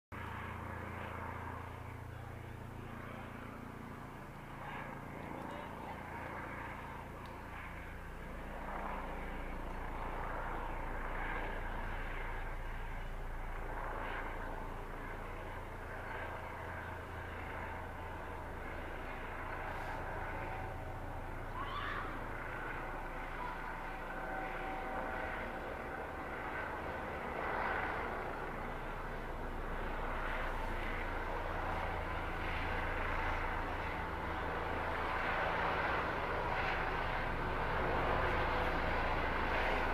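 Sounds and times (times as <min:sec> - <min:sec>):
helicopter rotor drone: 0:00.1 - 0:39.9.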